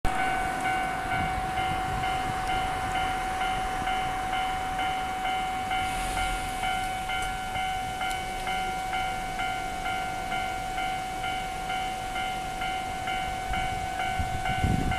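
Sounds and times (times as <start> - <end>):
level crossing warning bell: 0.1 - 14.9
steady underlying tone: 0.1 - 14.9.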